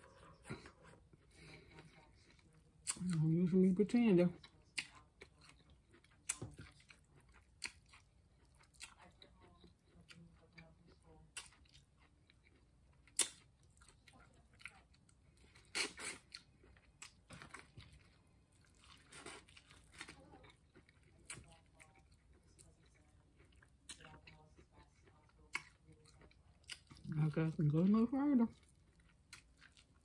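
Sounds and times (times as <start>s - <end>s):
wet chewing: 0.0s - 3.5s, 4.3s - 30.0s.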